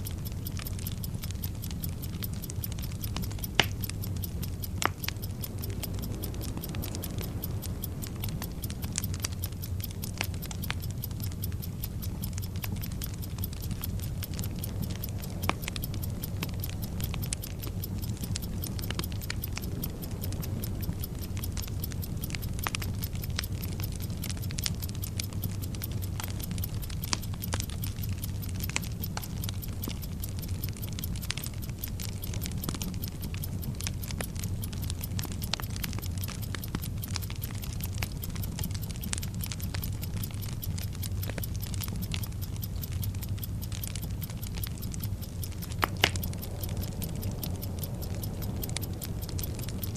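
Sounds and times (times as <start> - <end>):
clock ticking fast: 0.0 - 49.9.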